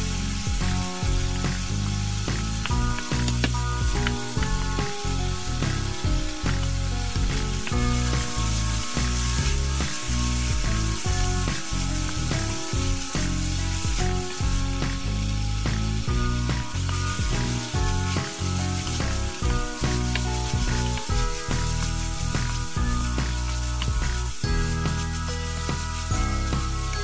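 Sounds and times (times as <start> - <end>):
background music: 0.0 - 27.0
food sizzling in frying pan: 0.0 - 27.0.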